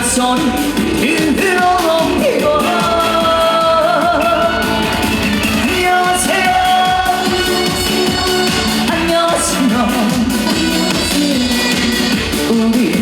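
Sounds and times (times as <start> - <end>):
amplified band backing: 0.0 - 13.0
person singing live: 0.0 - 13.0.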